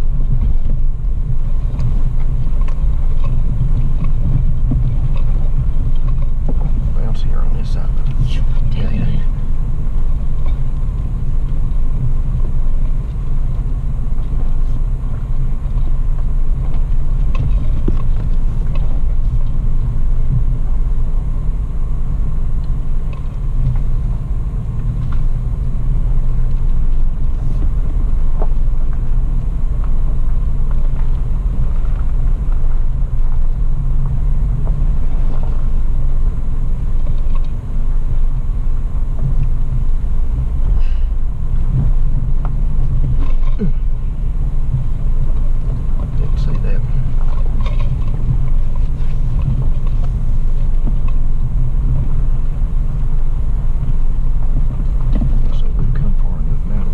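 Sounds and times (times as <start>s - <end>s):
engine and tyres rumbling on dirt: 0.0s - 56.9s.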